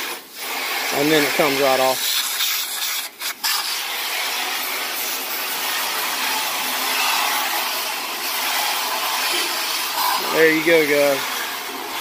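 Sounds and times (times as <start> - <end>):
water jet spraying metal hull: 0.0 - 12.0.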